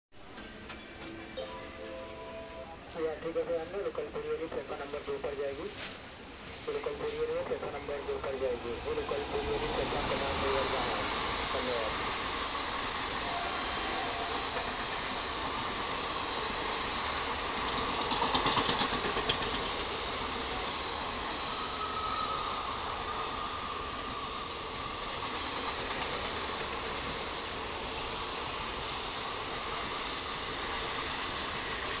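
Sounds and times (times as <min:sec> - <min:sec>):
train rushing past: 0:00.4 - 0:32.0
rapid train clatter: 0:02.9 - 0:21.2, 0:24.0 - 0:32.0.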